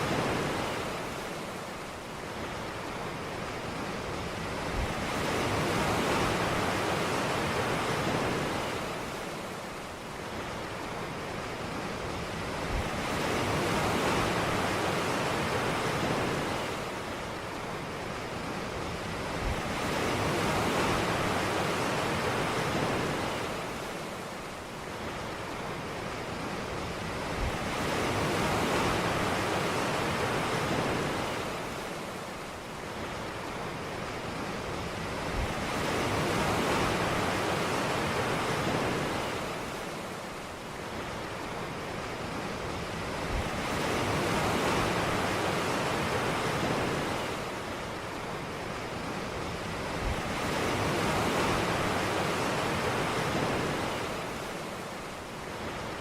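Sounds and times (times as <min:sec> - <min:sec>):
surf breaking on a beach: 0:00.0 - 0:56.0.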